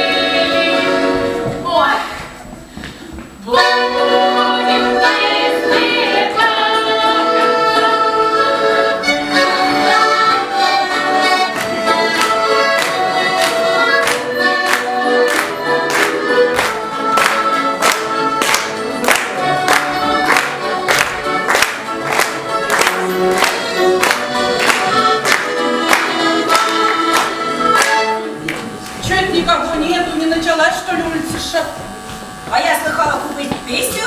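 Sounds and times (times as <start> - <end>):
accordion: 0.0 - 1.6, 3.0 - 34.0
people singing: 0.0 - 1.6, 3.4 - 29.5.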